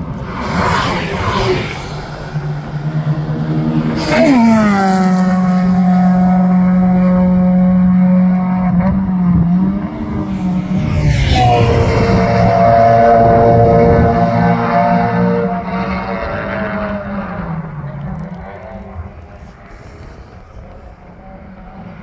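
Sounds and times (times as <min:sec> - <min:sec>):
race car passing at speed: 0:00.0 - 0:22.0
second race car passing: 0:00.0 - 0:22.0.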